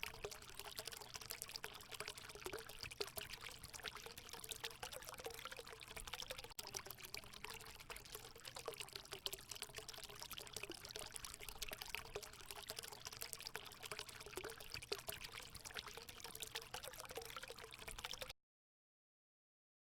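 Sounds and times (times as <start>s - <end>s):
water pouring into fountain basin: 0.0s - 18.4s.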